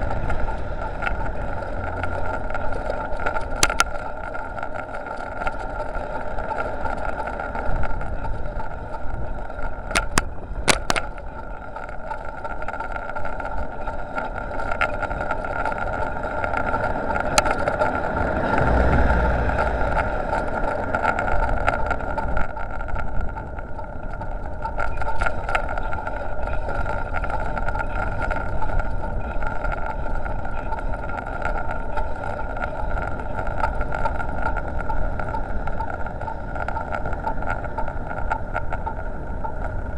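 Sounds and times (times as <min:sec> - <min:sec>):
sharp clicks: 0:00.0 - 0:39.9
steady whine: 0:00.0 - 0:39.9
wind and road rumble: 0:00.0 - 0:39.9.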